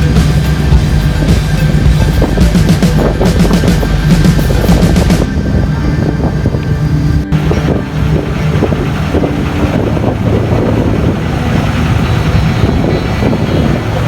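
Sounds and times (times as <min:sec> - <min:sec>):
engine drone: 0:00.0 - 0:14.0
wind buffeting microphone: 0:00.0 - 0:14.0.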